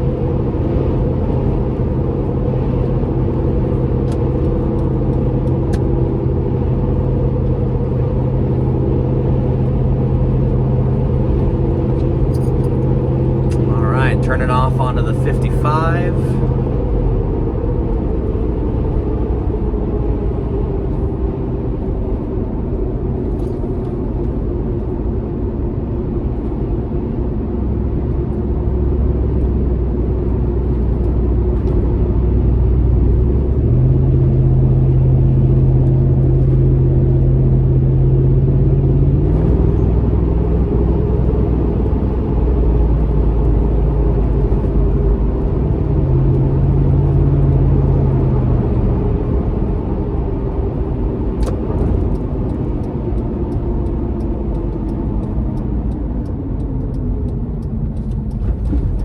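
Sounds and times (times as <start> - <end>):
low engine drone: 0.0 - 59.0
road noise: 0.0 - 59.0
strong low hum: 0.0 - 59.0.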